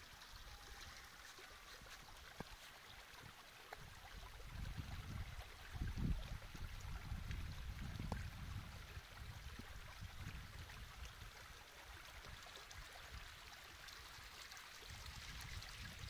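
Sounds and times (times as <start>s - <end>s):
trickling water in a channel: 0.0s - 16.0s.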